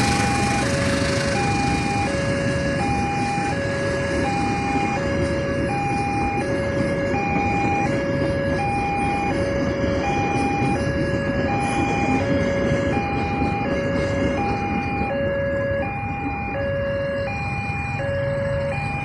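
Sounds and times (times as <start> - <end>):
steady rushing noise: 0.0 - 18.0
two-tone level-crossing siren: 0.0 - 19.0.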